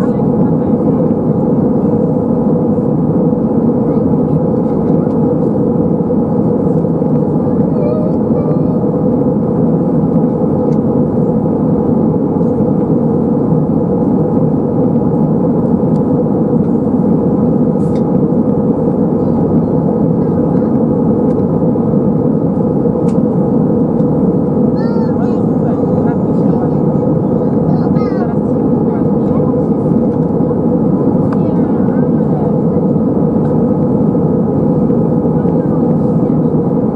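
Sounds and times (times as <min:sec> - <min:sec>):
air rushing along fuselage: 0:00.0 - 0:36.9
airplane cabin drone: 0:00.0 - 0:36.9.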